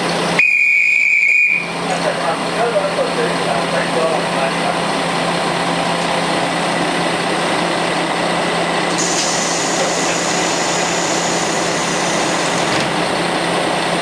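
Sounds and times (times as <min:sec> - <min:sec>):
diesel railcar engine idling: 0:00.0 - 0:14.0.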